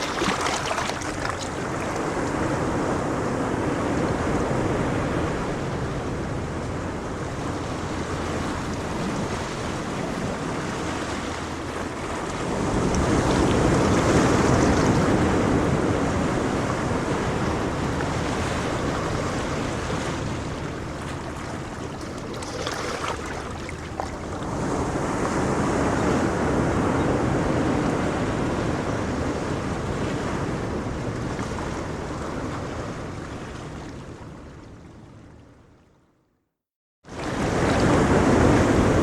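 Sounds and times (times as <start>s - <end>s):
ocean waves breaking: 0.0s - 34.5s, 37.1s - 39.0s.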